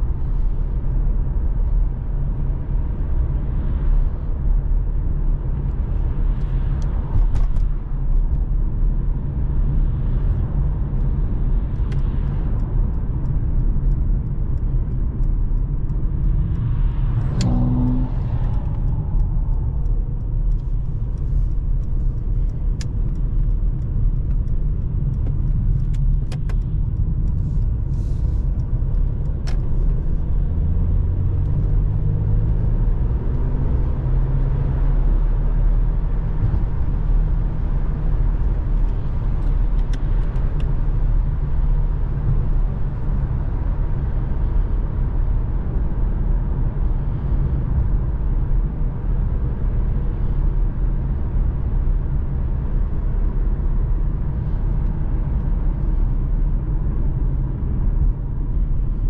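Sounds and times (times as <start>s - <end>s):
car engine rumble while driving: 0.0s - 59.0s.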